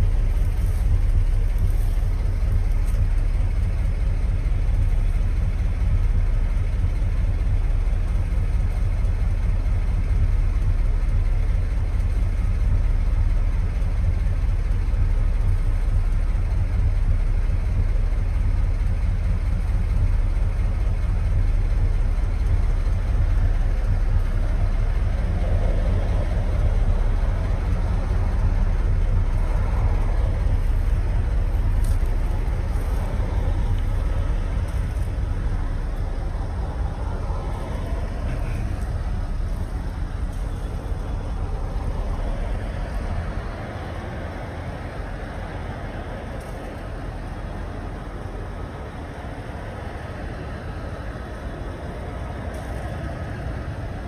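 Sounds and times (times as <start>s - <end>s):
vehicle engine rumble: 0.0s - 54.0s.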